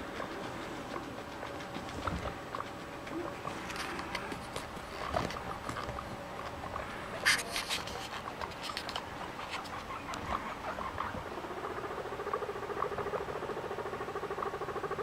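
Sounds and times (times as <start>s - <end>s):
guinea pigs crunching cabbage: 0.0s - 12.9s.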